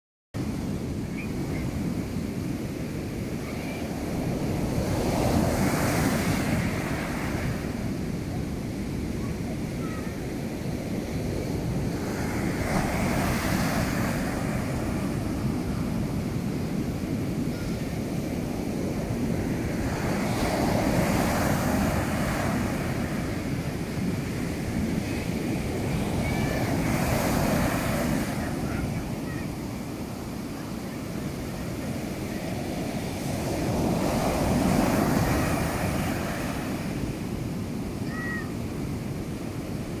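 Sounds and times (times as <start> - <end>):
ocean waves breaking on a beach: 0.4 - 40.0.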